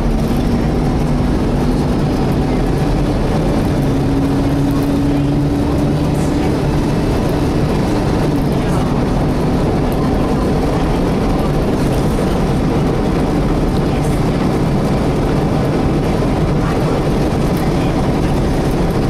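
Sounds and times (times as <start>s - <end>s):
bus diesel engine drone: 0.0s - 19.0s
radiator cooling fan: 0.0s - 19.0s
road rumble: 0.0s - 19.0s.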